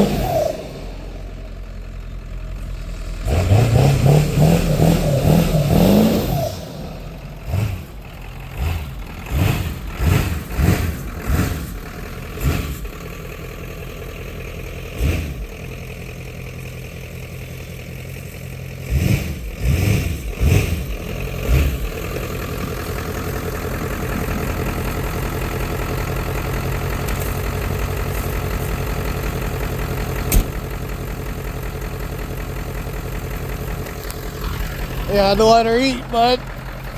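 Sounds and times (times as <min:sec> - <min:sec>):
diesel engine idling and revving: 0:00.0 - 0:36.9.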